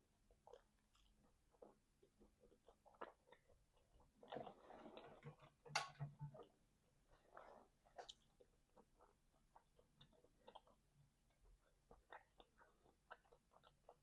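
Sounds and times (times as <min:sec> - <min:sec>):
person chewing: 0:00.0 - 0:05.6, 0:06.3 - 0:14.0.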